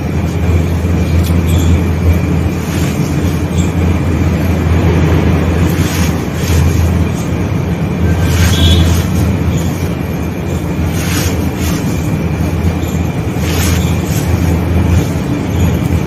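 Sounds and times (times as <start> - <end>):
steady low rumble: 0.0 - 16.0
hands crunching sand-cement mix: 0.2 - 16.0.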